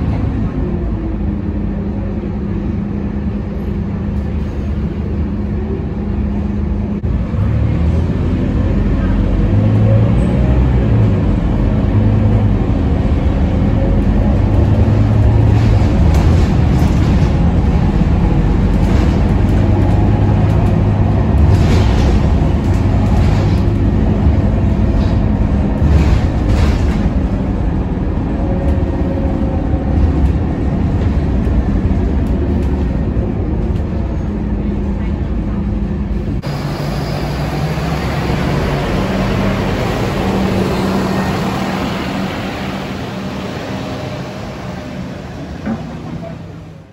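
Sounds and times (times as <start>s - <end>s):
bus diesel engine drone: 0.0s - 46.9s
road and tyre noise: 0.0s - 46.9s.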